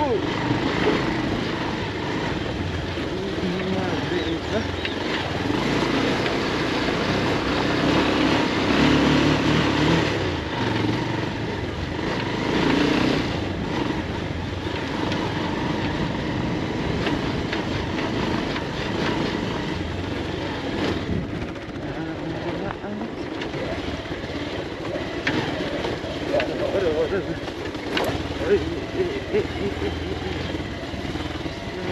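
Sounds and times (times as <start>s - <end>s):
motorcycle engine on dirt road: 0.0s - 31.9s.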